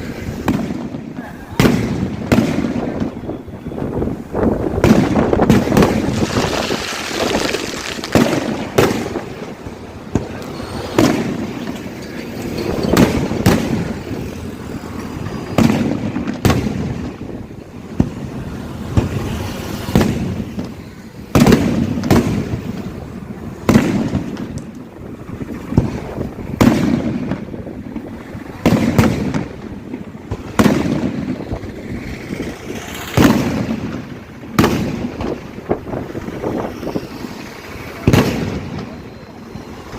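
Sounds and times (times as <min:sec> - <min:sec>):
firework shells bursting: 0:00.1 - 0:39.9.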